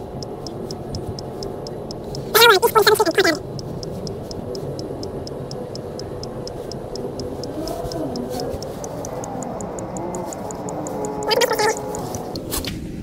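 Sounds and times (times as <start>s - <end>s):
car turn signal ticking: 0.0s - 12.8s.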